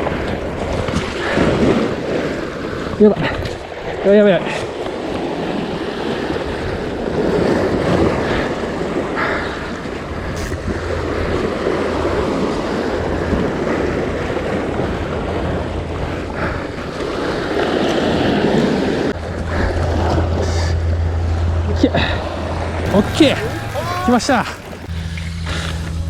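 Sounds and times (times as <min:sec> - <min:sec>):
surf washing against rocks: 0:00.0 - 0:20.6, 0:21.9 - 0:26.0
wind buffeting microphone: 0:00.0 - 0:25.8.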